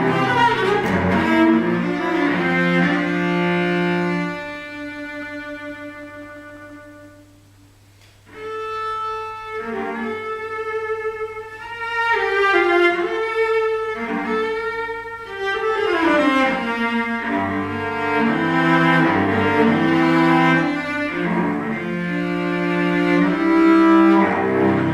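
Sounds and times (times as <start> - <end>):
bowed cello melody: 0.0 - 7.3, 8.3 - 24.9.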